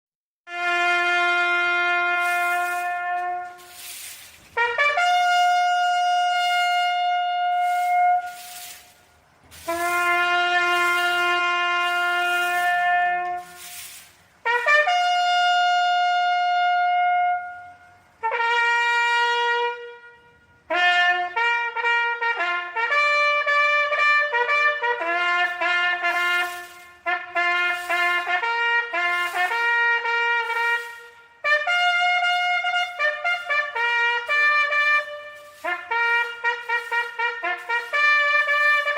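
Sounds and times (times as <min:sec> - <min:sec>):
solo bugle call: 0:00.5 - 0:38.9.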